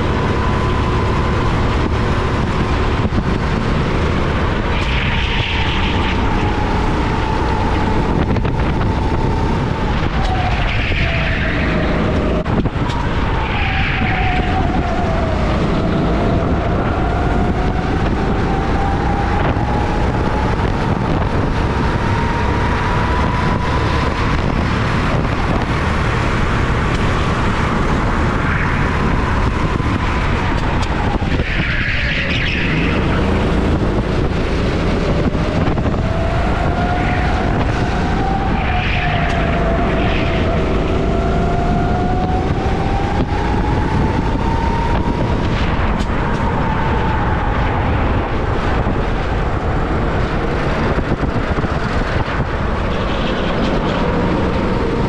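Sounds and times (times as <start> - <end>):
go-kart engine racing: 0.0 - 55.0
track noise: 0.0 - 55.0
wind noise: 0.0 - 55.0.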